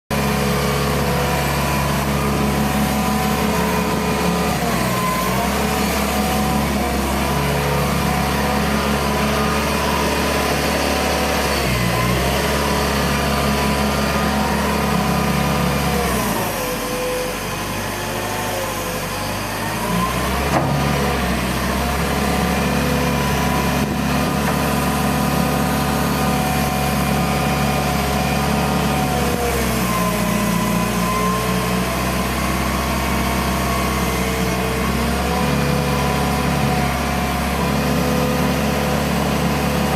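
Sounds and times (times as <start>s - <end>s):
excavator diesel engine running: 0.1s - 39.9s
hydraulic pump whine: 0.1s - 39.9s.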